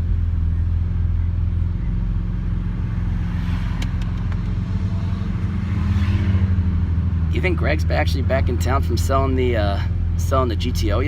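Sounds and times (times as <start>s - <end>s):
car engine droning inside cabin: 0.0s - 11.0s.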